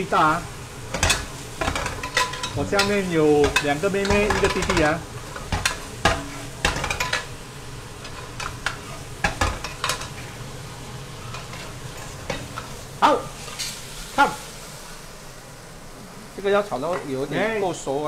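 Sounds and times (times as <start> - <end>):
steady sizzle: 0.0 - 18.0.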